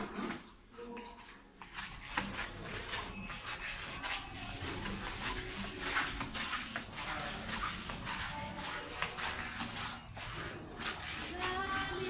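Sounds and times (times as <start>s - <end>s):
footsteps on tiled floor: 0.0s - 12.0s.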